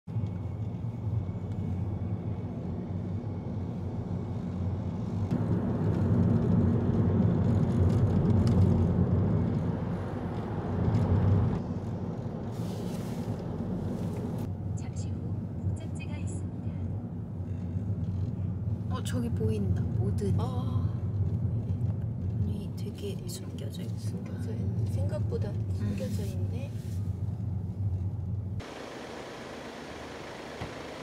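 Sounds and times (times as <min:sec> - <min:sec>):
car road rumble from inside: 0:00.1 - 0:31.0.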